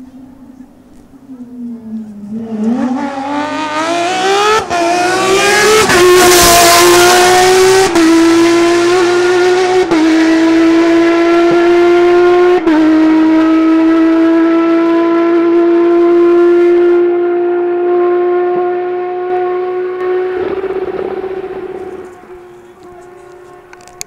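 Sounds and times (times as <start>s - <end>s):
rally car engine passing: 0.0s - 24.0s.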